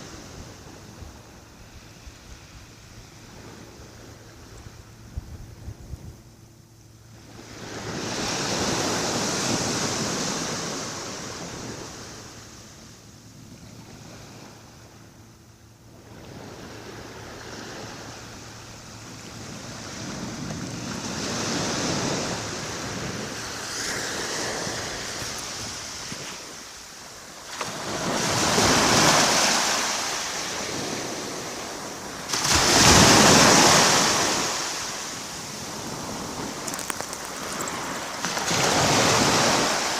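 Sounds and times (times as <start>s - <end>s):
small waves breaking on a beach: 0.0s - 6.1s, 7.1s - 39.9s.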